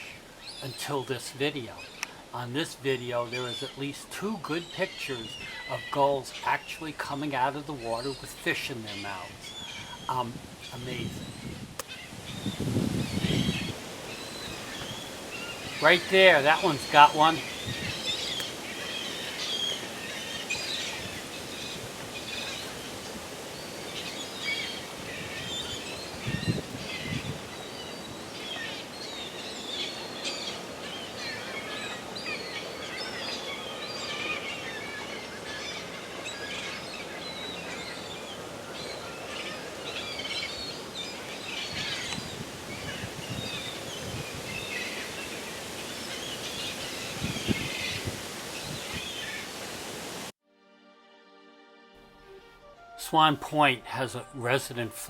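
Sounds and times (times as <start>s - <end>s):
gulls calling: 0.0s - 50.3s, 52.3s - 55.0s
steady background hiss: 0.0s - 50.3s.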